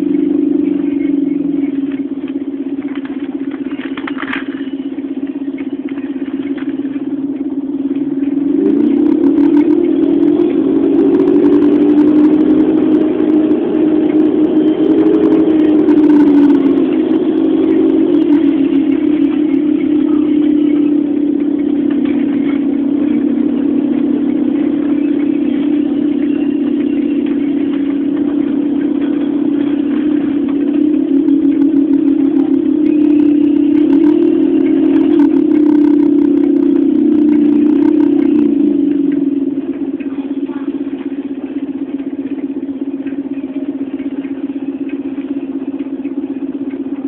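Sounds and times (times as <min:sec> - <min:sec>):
bus diesel engine: 0:00.0 - 0:47.0.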